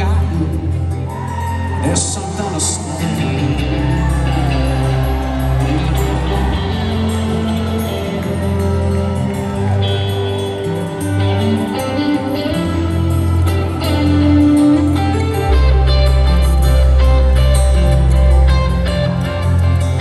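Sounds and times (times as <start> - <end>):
acoustic guitar: 0.0 - 20.0
bass notes: 0.0 - 20.0
keyboard: 0.0 - 20.0.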